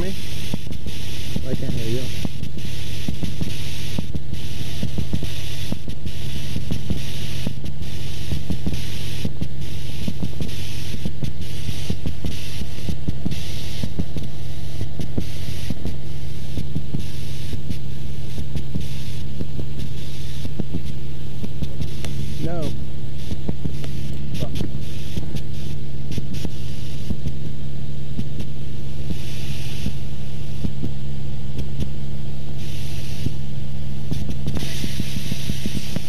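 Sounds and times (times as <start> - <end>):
airplane engine and propeller droning: 0.0 - 36.0
high hiss: 0.0 - 36.0.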